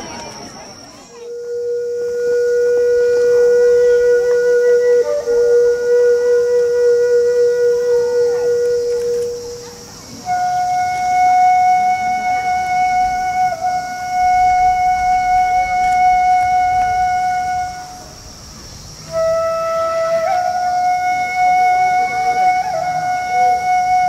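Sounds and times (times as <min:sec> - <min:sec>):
flute playing held notes: 0:00.0 - 0:24.0.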